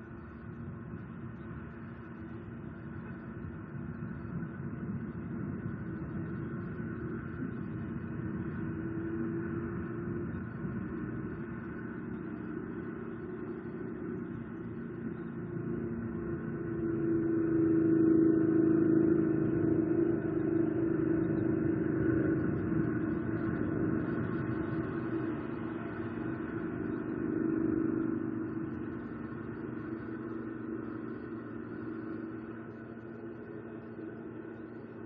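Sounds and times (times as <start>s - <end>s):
passing vehicle engine hum: 6.2s - 35.0s.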